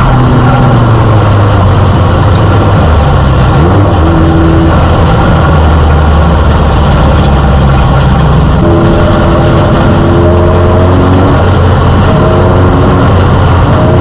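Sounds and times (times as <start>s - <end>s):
race car engine from cockpit: 0.0s - 14.0s.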